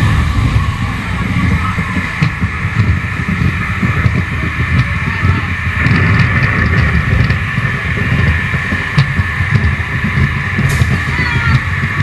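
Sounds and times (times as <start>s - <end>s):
amusement ride rumble: 0.0s - 12.0s
wind buffeting microphone: 0.0s - 12.0s.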